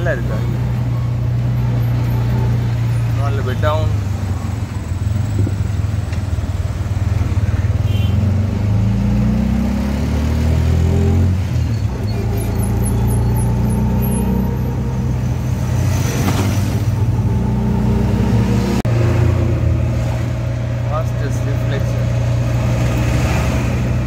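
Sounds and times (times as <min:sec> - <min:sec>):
auto-rickshaw engine running: 0:00.0 - 0:24.0.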